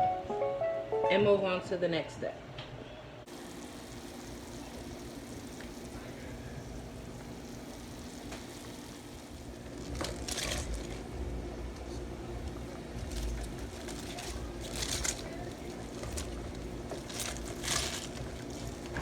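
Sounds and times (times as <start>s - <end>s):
faint kitchen hum: 1.1s - 19.0s
pot of water boiling: 3.3s - 19.0s.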